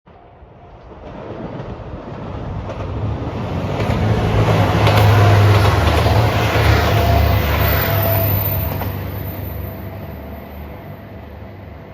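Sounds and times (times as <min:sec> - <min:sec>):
train wheels rolling: 0:00.7 - 0:10.4
diesel train engine drone: 0:02.1 - 0:11.9.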